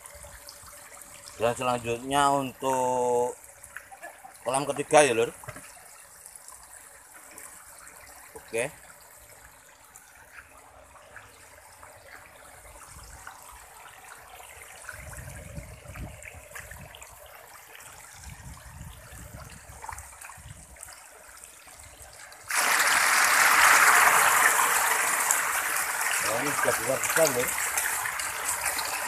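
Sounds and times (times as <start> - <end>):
faint water trickling: 0.0 - 22.7, 24.1 - 29.0.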